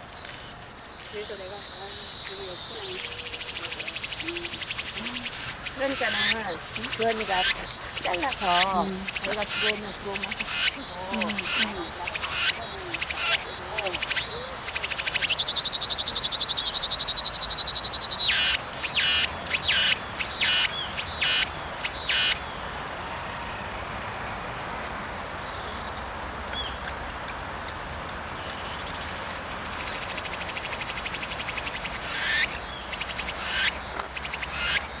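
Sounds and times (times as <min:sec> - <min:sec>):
cicadas buzzing: 0:00.0 - 0:35.0.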